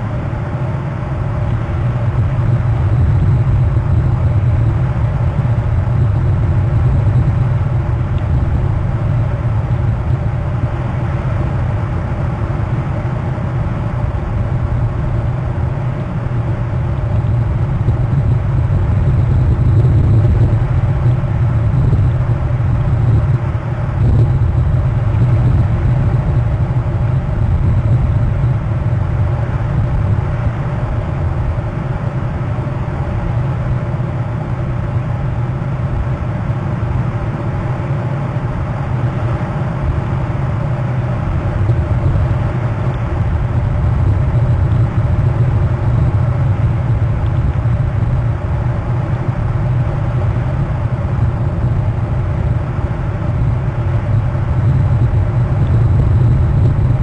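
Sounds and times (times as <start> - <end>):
wind buffeting microphone: 0.2 - 57.0.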